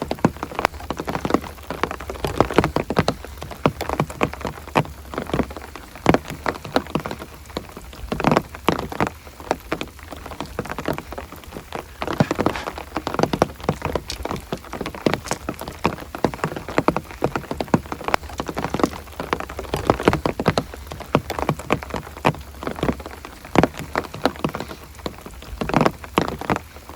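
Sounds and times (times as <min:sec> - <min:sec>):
large raindrops tapping close by: 0:00.0 - 0:26.9
steady rain: 0:00.0 - 0:26.9.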